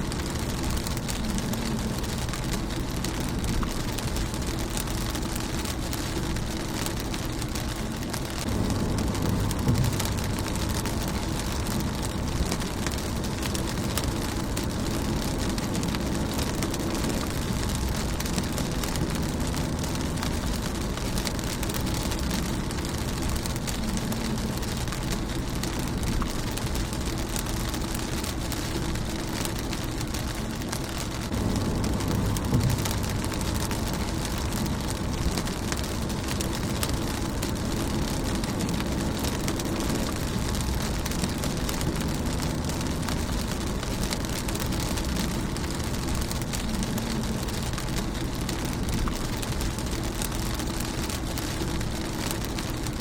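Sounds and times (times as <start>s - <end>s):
low rumble: 0.0s - 53.0s
rain on car windshield: 0.0s - 53.0s.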